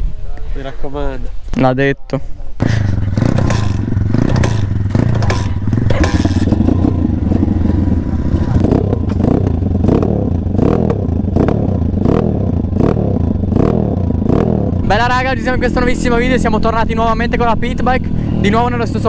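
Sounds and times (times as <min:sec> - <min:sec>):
pit bike engine revving: 0:02.6 - 0:19.0.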